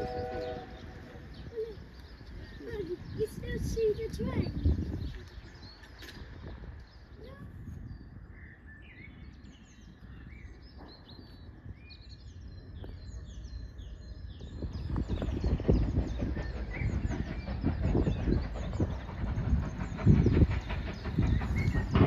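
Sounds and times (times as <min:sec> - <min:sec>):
small birds chirping: 0:00.3 - 0:22.0.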